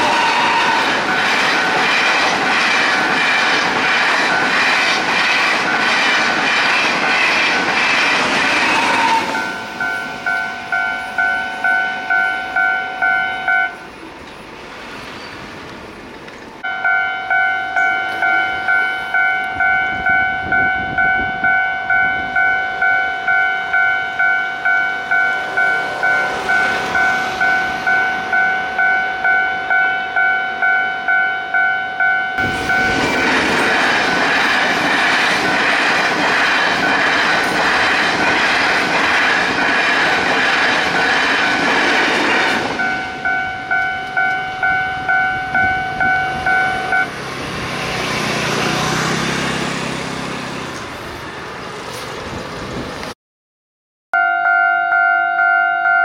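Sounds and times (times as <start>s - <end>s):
level-crossing warning bell: 0.0s - 14.0s, 16.6s - 47.2s, 54.2s - 56.0s
train wheels on rails: 0.0s - 31.2s, 32.0s - 53.2s.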